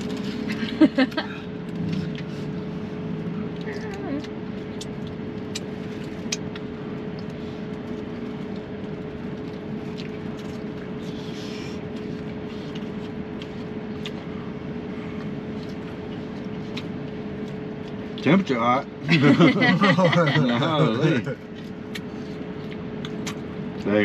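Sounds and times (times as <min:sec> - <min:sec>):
low hum with pitched tone: 0:00.0 - 0:24.0.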